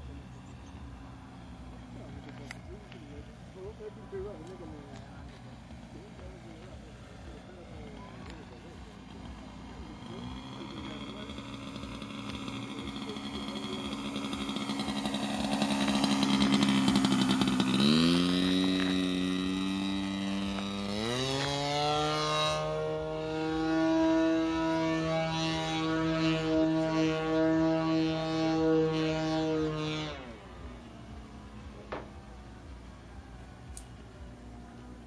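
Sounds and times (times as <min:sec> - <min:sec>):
model plane engine: 0:00.0 - 0:35.0.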